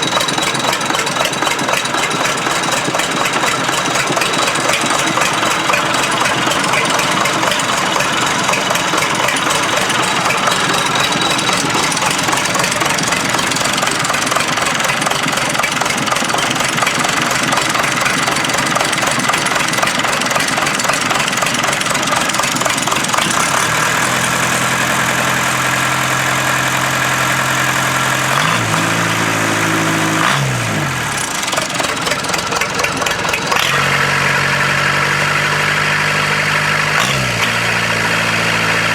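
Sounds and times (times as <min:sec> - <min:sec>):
diesel engine clattering: 0:00.0 - 0:38.9.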